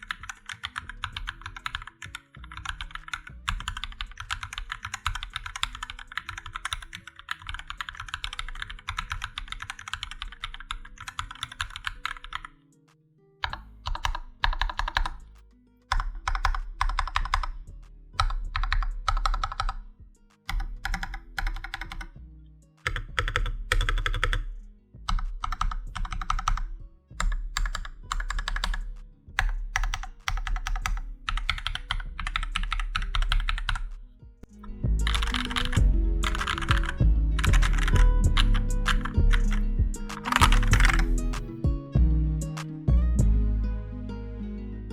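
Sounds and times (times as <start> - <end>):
large keyboard keys pressed: 0.0 - 12.5, 13.4 - 17.6, 18.2 - 19.8, 20.5 - 22.1, 22.8 - 34.0, 34.6 - 41.7
mechanical keyboard typing: 0.0 - 12.5, 13.4 - 15.3, 15.9 - 17.6, 18.2 - 19.8, 20.4 - 22.1, 22.8 - 34.0, 34.6 - 41.5
background music: 0.0 - 44.9.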